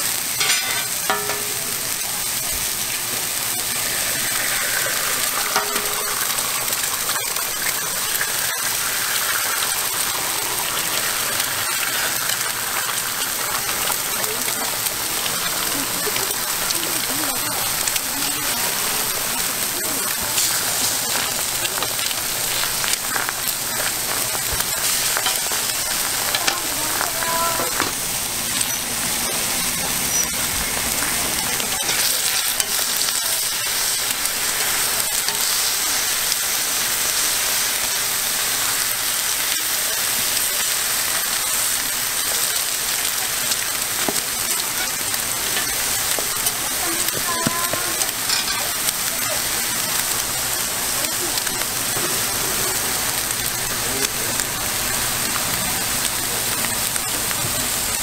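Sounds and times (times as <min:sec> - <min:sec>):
food sizzling on griddle: 0:00.0 - 0:58.0.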